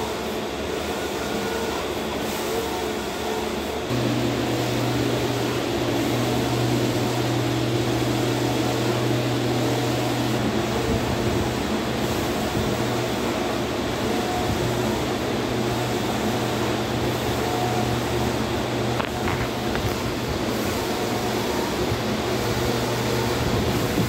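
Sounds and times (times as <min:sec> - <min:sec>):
printer motors and fans whirring: 0:00.0 - 0:24.0.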